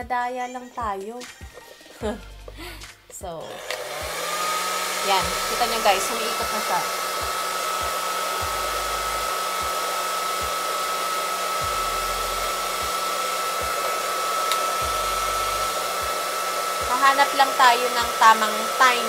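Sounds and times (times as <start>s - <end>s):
hair dryer running: 3.4s - 19.0s.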